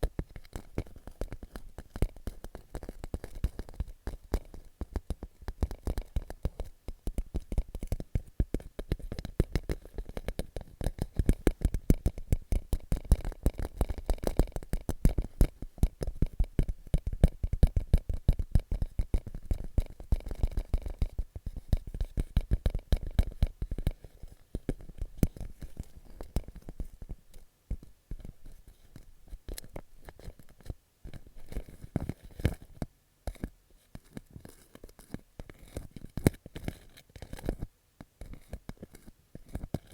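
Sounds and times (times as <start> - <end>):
fingertips tapping on plastic pouch: 0.0 - 39.9.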